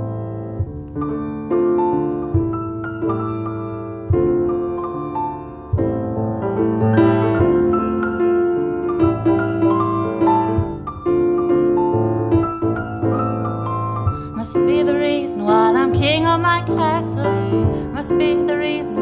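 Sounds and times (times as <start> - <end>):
grand piano chords: 0.0 - 19.0.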